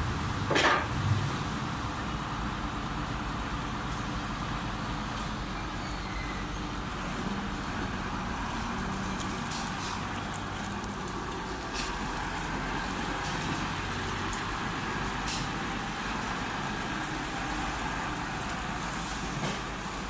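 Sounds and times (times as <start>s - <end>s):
forklift engine running: 0.0s - 20.0s.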